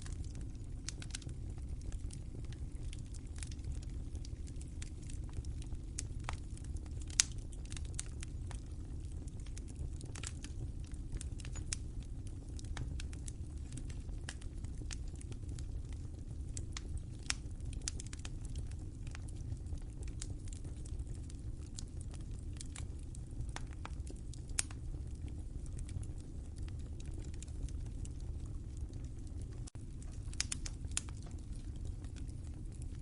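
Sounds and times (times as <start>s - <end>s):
low steady rumble: 0.0s - 33.0s
wood fire crackling: 0.0s - 33.0s.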